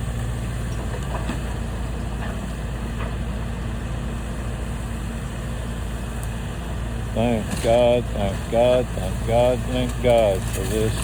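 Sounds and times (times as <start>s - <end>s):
heavy machine engine rumbling: 0.0s - 11.0s.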